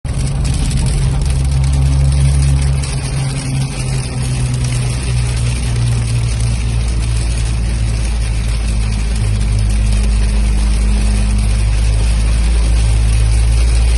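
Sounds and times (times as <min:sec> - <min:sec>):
car engine droning: 0:00.1 - 0:13.9
heavy rain hissing: 0:00.1 - 0:13.9.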